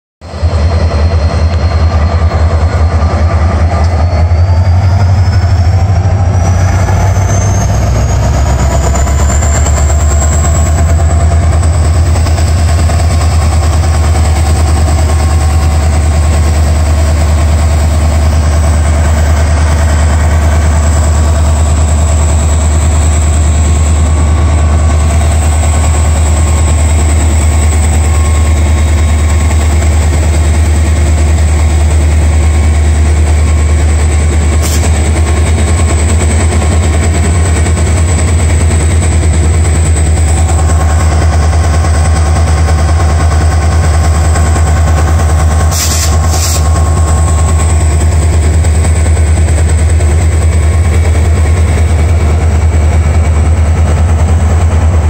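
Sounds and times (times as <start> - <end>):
diesel locomotive idling: 0.2 - 55.0.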